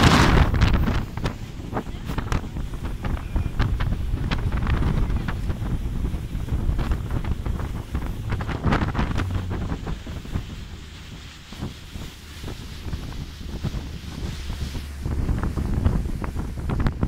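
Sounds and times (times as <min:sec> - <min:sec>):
low rumble: 0:00.0 - 0:17.0
wind buffeting microphone: 0:00.0 - 0:17.0.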